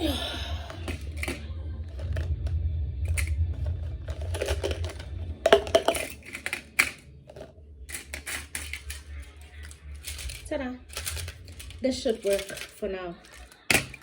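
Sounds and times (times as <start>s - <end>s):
makeup brushes clattering: 0.0s - 2.5s, 3.1s - 14.0s
steady low hum: 0.0s - 14.0s.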